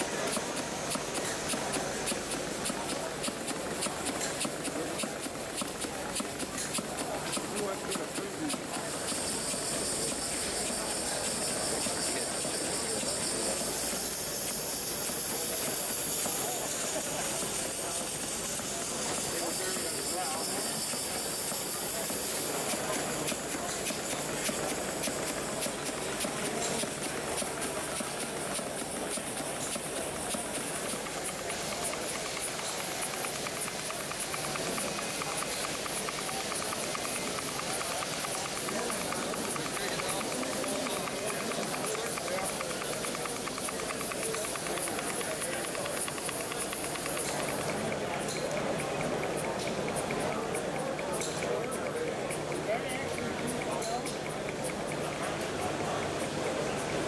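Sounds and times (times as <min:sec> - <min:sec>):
model engine exhaust puffing: 0:00.0 - 0:56.2
murmur of crowd chatter: 0:00.0 - 0:57.0.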